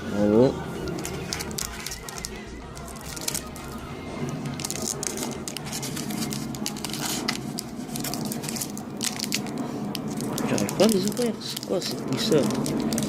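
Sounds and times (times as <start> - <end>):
plastic packaging crinkling: 0.8 - 13.0.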